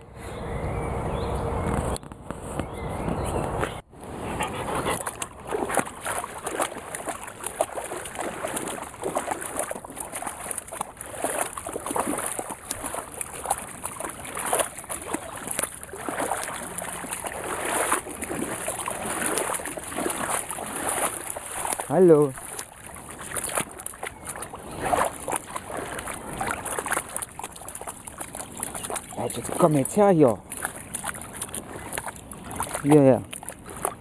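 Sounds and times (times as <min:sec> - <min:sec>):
footsteps in water: 0:01.7 - 0:34.0
dog splashing through water: 0:04.0 - 0:34.0.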